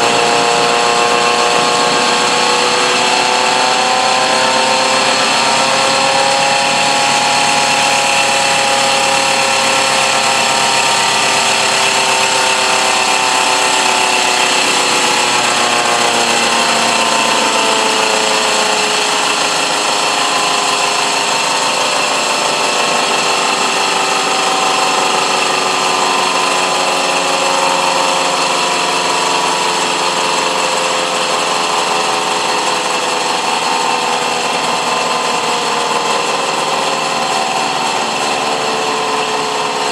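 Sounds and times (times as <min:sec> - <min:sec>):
electric motor whirring and whining: 0:00.0 - 0:39.9.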